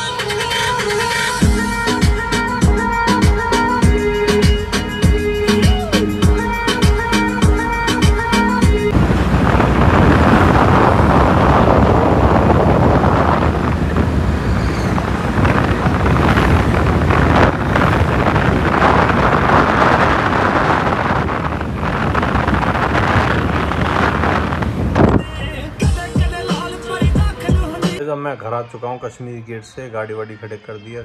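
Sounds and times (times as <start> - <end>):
road and traffic noise: 0.0 - 28.1
wind buffeting a microphone: 1.5 - 26.4.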